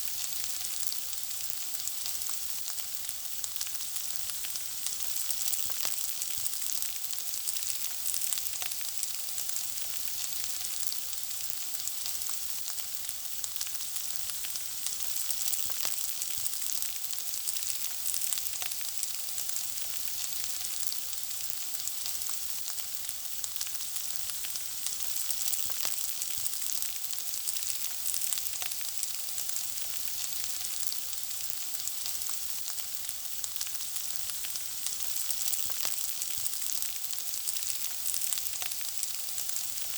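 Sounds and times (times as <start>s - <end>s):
food frying sizzle: 0.0s - 39.9s.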